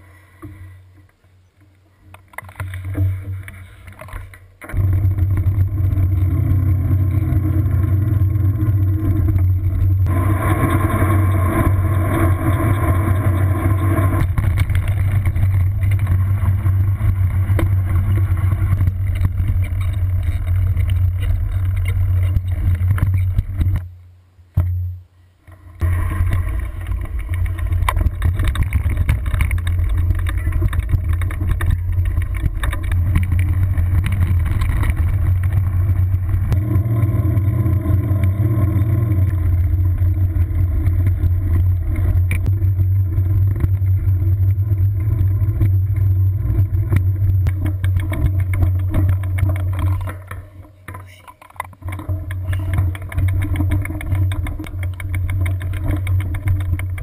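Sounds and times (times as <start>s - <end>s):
bicycle rattling over gravel: 2.1s - 23.8s, 25.5s - 57.0s.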